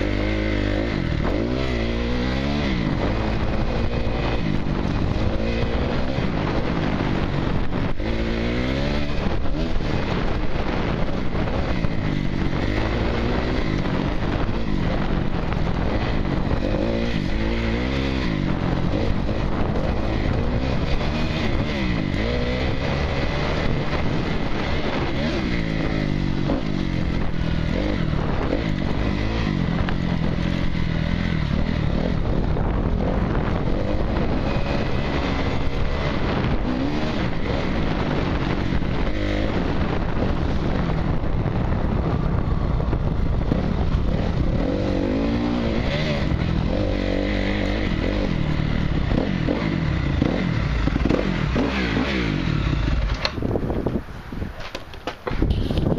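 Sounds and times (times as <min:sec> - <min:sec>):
dirt bike engine revving: 0:00.0 - 0:54.0
steady rushing noise: 0:00.0 - 0:55.9.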